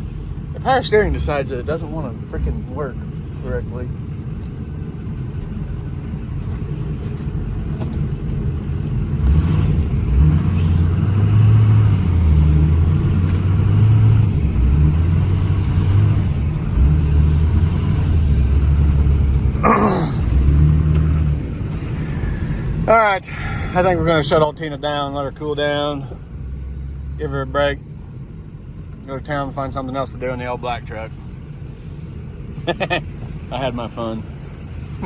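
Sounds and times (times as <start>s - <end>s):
diesel engine high revs: 0.0s - 4.0s, 4.6s - 35.0s.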